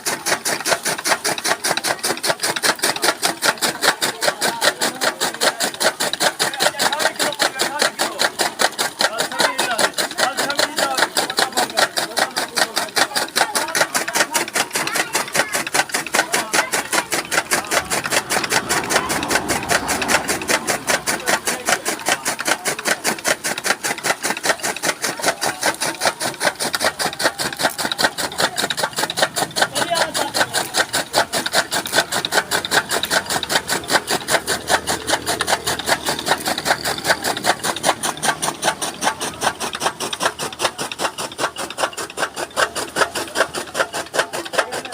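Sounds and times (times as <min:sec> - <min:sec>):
chaff cutter chopping stalks: 0:00.0 - 0:44.9.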